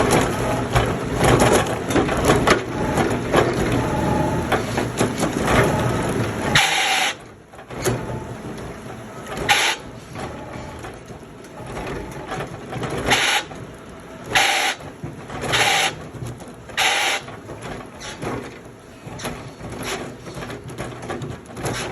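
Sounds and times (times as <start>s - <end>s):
wood-processing machine running: 0.0s - 21.9s.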